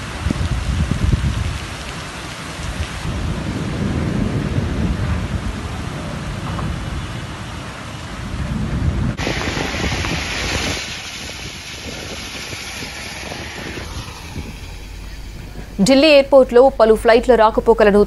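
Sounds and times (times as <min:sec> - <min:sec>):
steady rain falling: 0:00.0 - 0:16.4
low rumble of thunder: 0:00.0 - 0:17.4.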